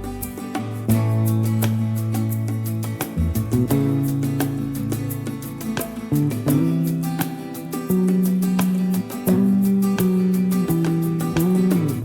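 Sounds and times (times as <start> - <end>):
plucked acoustic guitar tune: 0.0 - 12.0.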